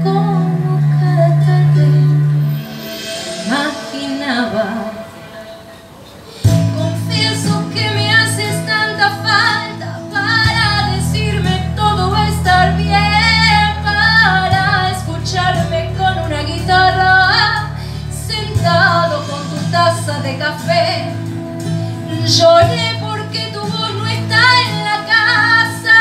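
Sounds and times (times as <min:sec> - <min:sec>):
woman singing into a microphone: 0:00.0 - 0:02.6, 0:03.2 - 0:05.6, 0:06.5 - 0:26.0.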